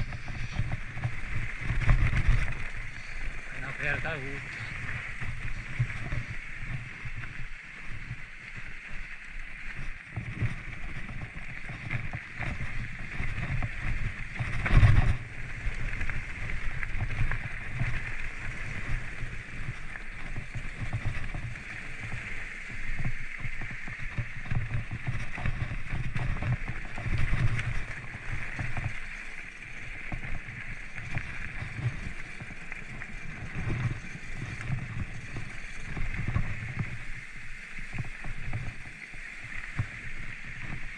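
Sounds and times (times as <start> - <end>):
bike tyres and frame rattling: 0.0 - 40.9.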